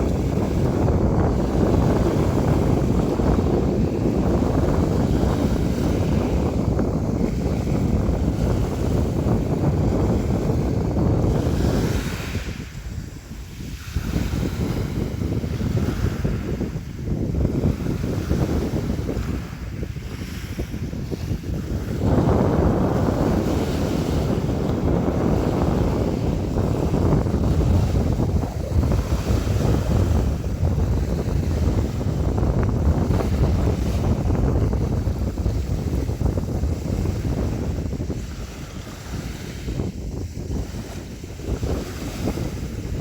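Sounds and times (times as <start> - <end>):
sea waves washing and splashing: 0.0 - 43.0.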